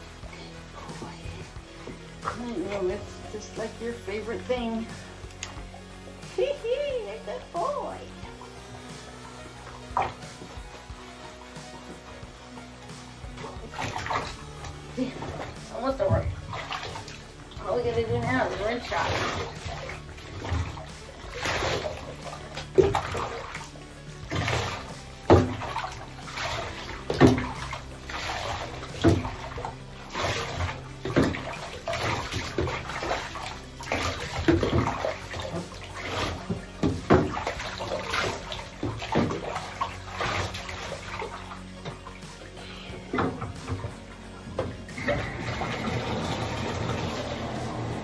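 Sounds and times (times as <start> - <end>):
sponge scrubbing wet dog: 0.0 - 4.8, 7.3 - 48.0
background music: 0.0 - 48.0
water splashing in bathtub: 0.0 - 48.0.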